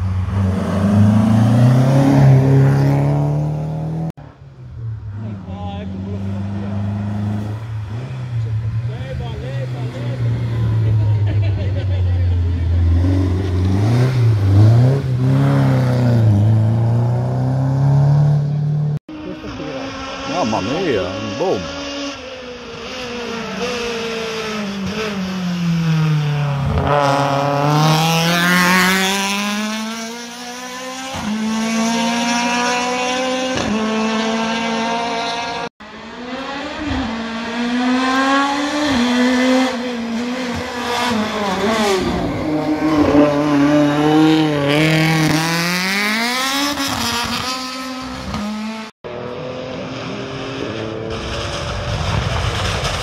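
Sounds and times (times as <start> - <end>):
race car engine with upshifts: 0.0 - 53.0.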